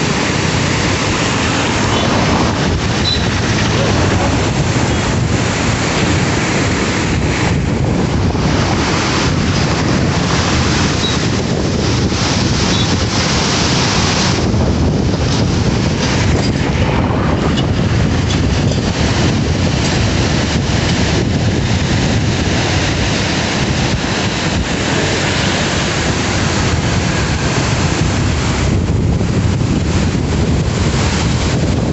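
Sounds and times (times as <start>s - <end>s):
floodwater rushing: 0.0s - 31.9s.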